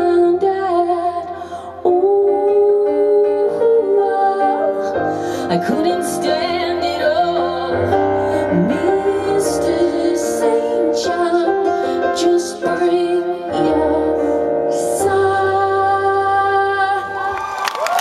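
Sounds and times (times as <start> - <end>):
keyboard and piano chords: 0.0 - 17.4
woman singing: 0.0 - 17.9.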